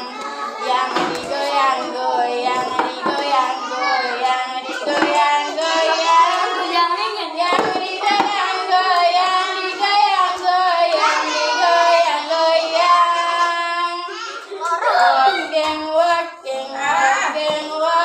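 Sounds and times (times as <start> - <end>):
children singing together: 0.0 - 18.0.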